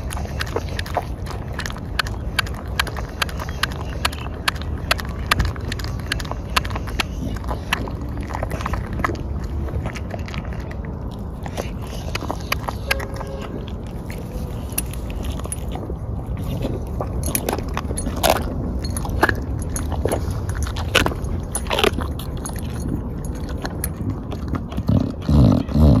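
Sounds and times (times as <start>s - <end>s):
dog chewing meat and bone: 0.0s - 26.0s
steady low rumble: 0.0s - 26.0s.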